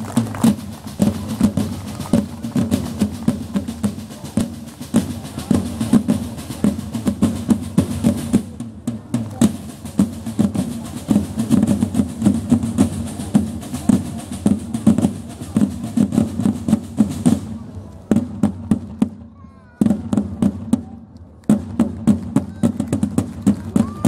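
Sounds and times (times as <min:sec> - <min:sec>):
marching drums with rolls: 0:00.0 - 0:24.0.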